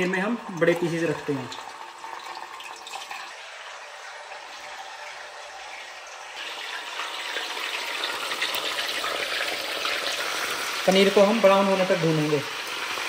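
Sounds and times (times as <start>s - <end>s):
paneer sizzling in hot oil: 0.0s - 13.0s.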